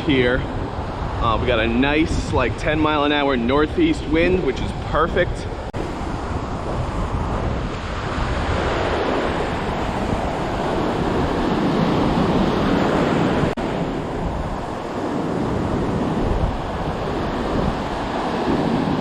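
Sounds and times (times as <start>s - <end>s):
ocean surf breaking: 0.0s - 19.0s
wind across microphone: 0.0s - 19.0s.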